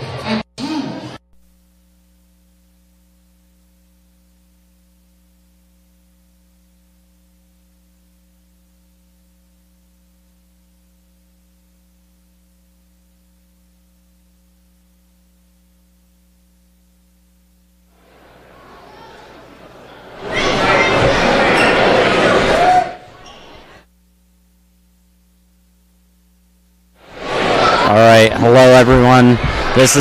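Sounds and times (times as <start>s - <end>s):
electrical mains hum: 1.4s - 30.0s.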